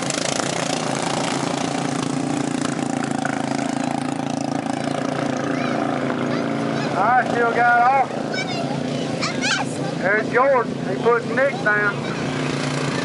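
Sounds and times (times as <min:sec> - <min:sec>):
racing lawn mower engines droning: 0:00.0 - 0:13.0.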